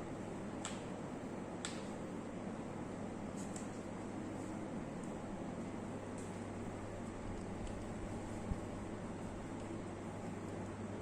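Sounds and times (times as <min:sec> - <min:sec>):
low room hum and hiss: 0:00.0 - 0:11.0.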